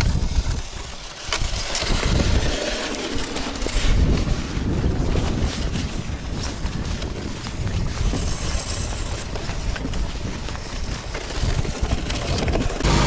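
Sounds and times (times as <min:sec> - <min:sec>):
sled runners scraping on ice: 0:00.0 - 0:13.0.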